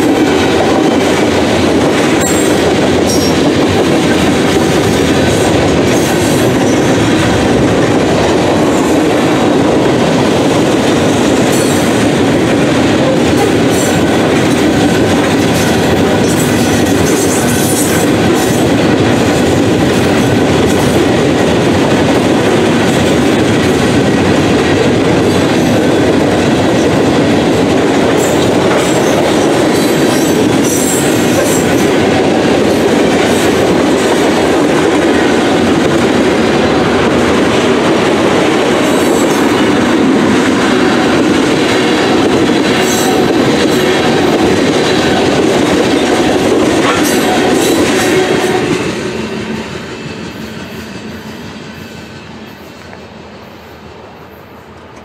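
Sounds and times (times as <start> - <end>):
train wheels rolling on rail: 0.0 - 55.0.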